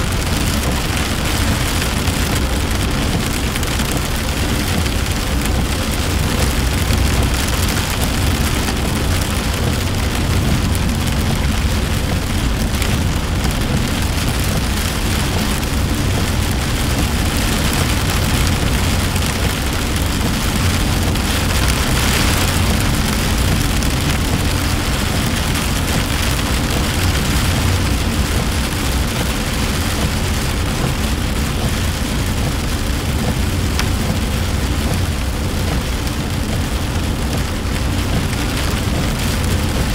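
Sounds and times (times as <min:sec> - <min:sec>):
car engine: 0:00.0 - 0:39.9
heavy rain hitting a car: 0:00.0 - 0:39.9
tyres rumbling on wet road: 0:00.0 - 0:39.9.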